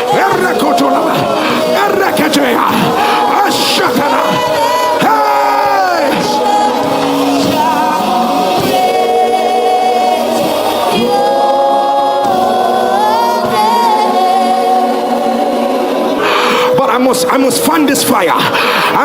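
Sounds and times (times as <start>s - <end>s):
gospel choir singing: 0.0s - 19.0s.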